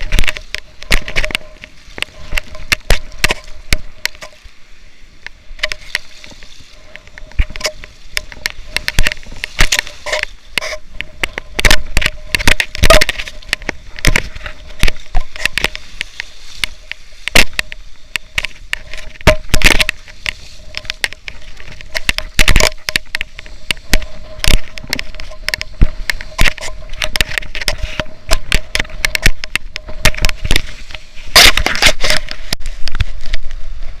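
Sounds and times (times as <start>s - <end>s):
water splashing: 0.0s - 34.0s
wind buffeting microphone: 5.5s - 34.0s.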